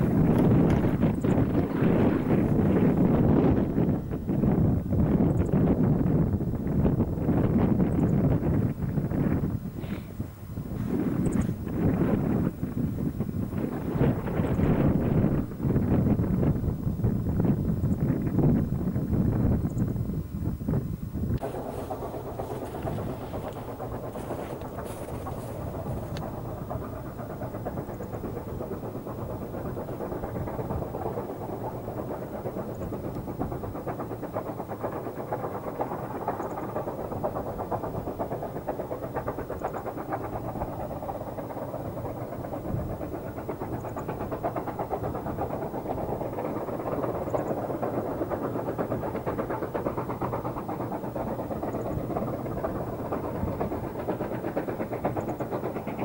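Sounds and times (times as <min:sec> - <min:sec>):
steam locomotive exhaust beat: 0:00.0 - 0:56.0.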